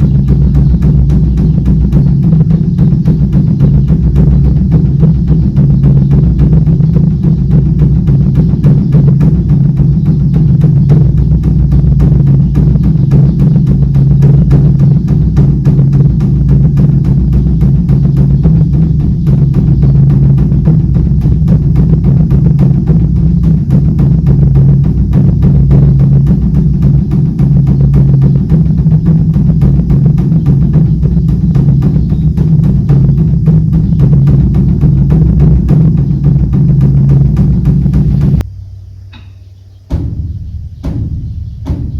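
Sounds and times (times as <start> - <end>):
large drum struck rapidly: 0.0 - 38.5, 39.1 - 41.9.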